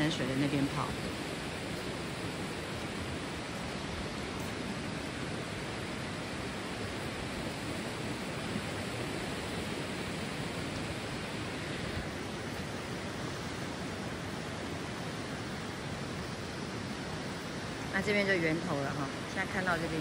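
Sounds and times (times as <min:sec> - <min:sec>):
stream flowing over stones: 0:00.0 - 0:20.0.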